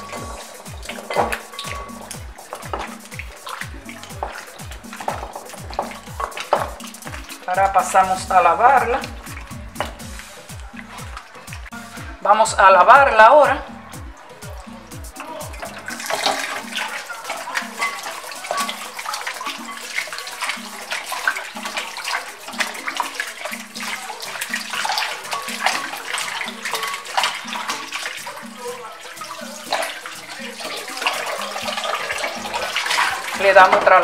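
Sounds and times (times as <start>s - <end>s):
tap water running into a bowl: 0.0s - 34.0s
water splashing: 0.0s - 34.0s.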